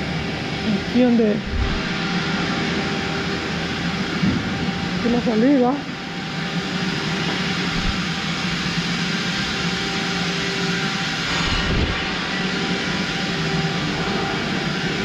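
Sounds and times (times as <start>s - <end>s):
machinery drone: 0.0s - 15.0s.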